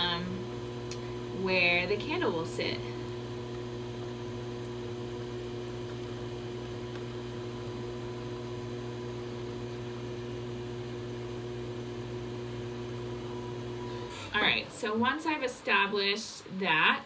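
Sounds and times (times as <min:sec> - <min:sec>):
potter's wheel motor humming: 0:00.0 - 0:16.9.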